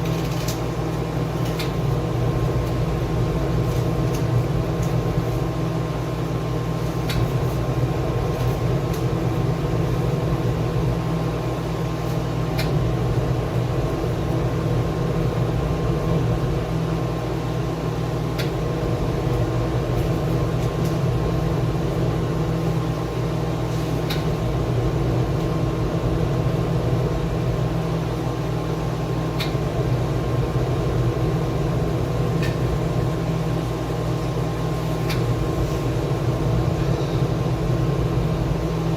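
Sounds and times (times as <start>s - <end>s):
machine hum: 0.0s - 38.9s.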